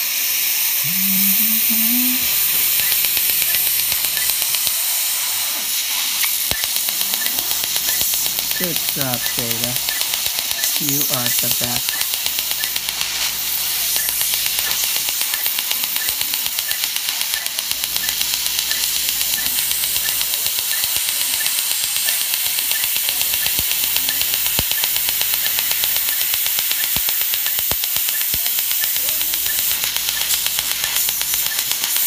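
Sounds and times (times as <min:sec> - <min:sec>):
dental laser popping: 0:00.5 - 0:32.0.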